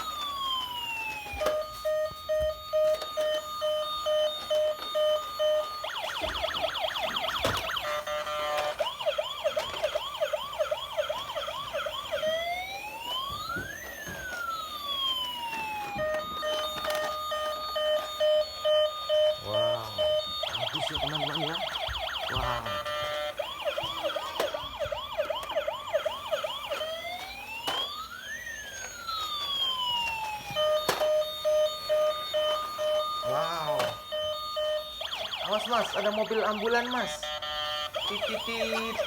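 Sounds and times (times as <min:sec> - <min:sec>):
toy siren beeping: 0:00.0 - 0:39.0
toy siren wail: 0:00.0 - 0:39.0
toy siren yelping and chirps: 0:00.0 - 0:39.0.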